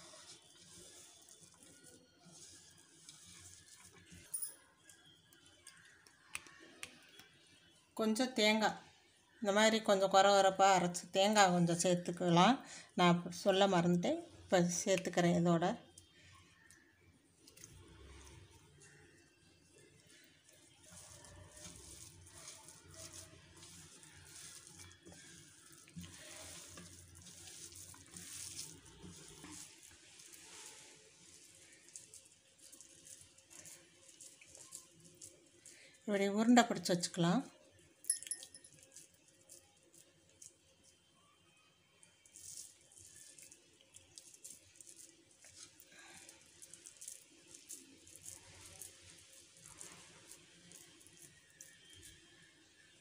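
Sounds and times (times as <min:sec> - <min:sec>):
hand kneading moist mash: 0:00.0 - 0:08.6, 0:13.2 - 0:53.0.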